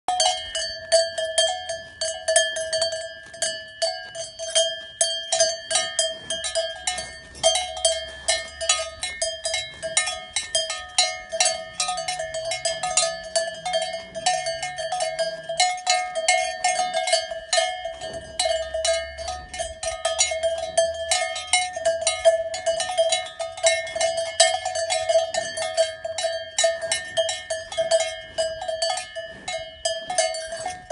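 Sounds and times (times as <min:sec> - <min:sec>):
cowbells clanking: 0:00.1 - 0:30.9
steady ringing tone: 0:00.1 - 0:30.9.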